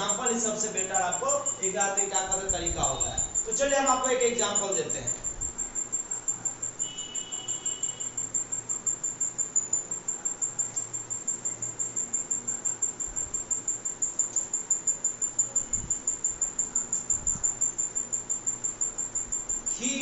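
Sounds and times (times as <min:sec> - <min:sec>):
insect chirping: 0:00.0 - 0:20.0.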